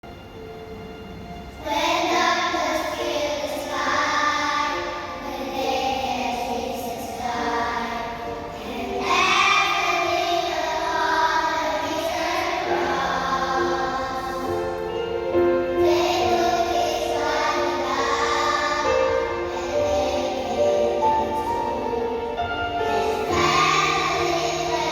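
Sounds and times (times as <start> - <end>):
choir singing held notes: 1.6 - 24.9.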